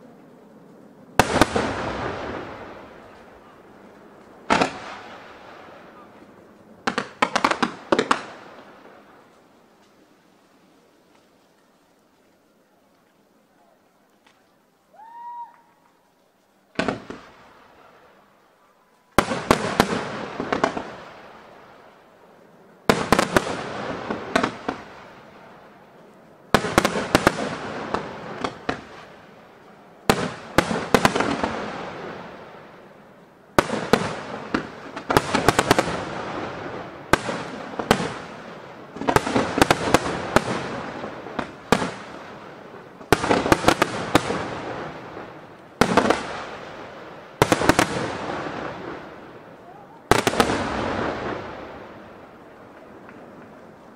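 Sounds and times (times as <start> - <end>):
hiss and crackle of falling sparks: 0.0 - 53.9.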